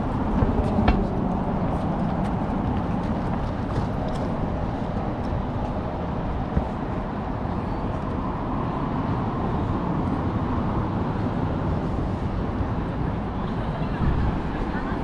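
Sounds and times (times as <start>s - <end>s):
cars passing on road: 0.0s - 15.0s.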